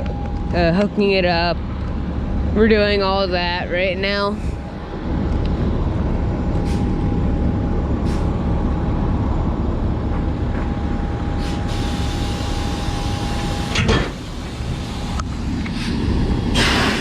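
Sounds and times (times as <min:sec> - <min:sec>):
thin steady whine: 0:00.0 - 0:16.4
diesel truck engine rumble: 0:00.0 - 0:17.0.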